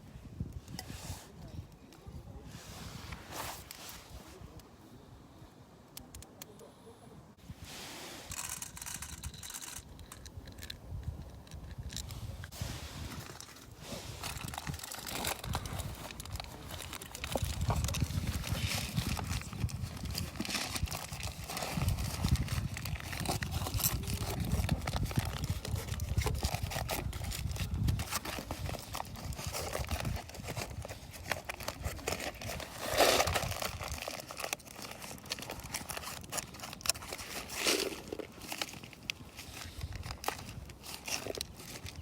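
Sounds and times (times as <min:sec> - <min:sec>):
handling noises: 0:07.6 - 0:42.0.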